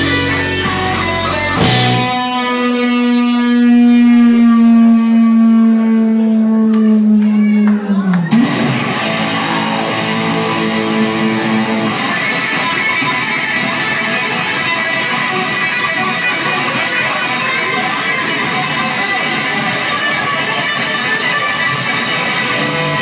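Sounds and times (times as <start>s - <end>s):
live rock band playing: 0.0s - 4.5s, 8.0s - 23.0s
electric guitar strummed chords: 0.0s - 7.2s, 8.2s - 23.0s.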